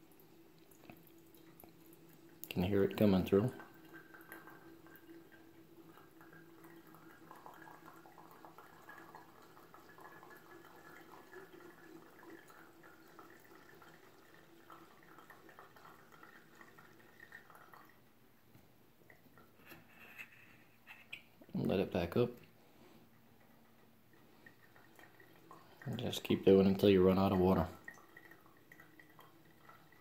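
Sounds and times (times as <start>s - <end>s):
coffee trickling into cup: 0.0s - 30.0s.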